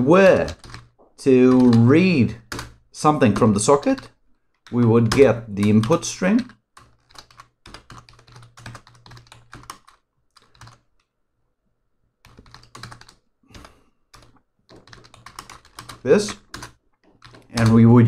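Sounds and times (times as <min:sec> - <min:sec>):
computer keyboard typing: 0:00.0 - 0:11.1, 0:12.2 - 0:17.9.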